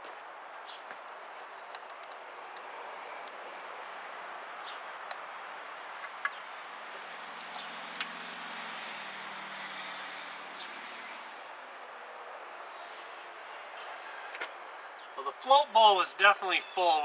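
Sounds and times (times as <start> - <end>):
distant vehicle hum: 0.0 - 17.0
outdoor background noise: 0.0 - 17.0.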